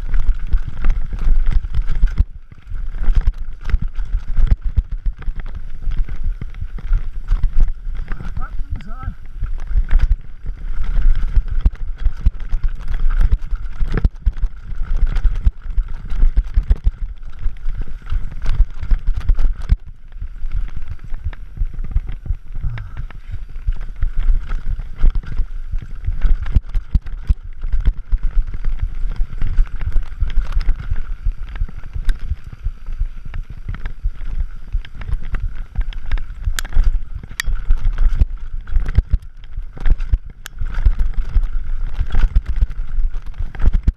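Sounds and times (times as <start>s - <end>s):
mountain bike rattling over rocks: 0.0s - 43.9s
wind on microphone: 0.0s - 43.9s.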